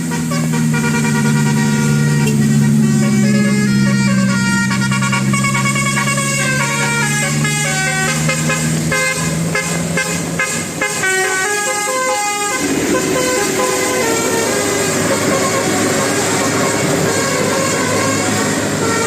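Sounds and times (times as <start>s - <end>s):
multi-tone musical air horn: 0.0s - 19.0s.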